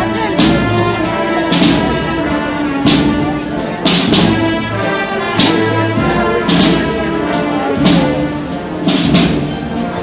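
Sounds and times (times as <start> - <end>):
brass band playing a march: 0.0 - 10.0
heavy drum beats: 0.0 - 10.0.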